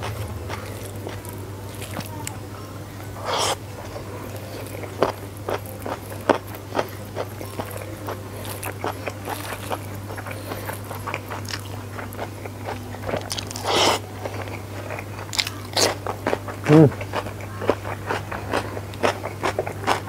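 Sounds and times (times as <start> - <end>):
person chewing: 0.0 - 20.0.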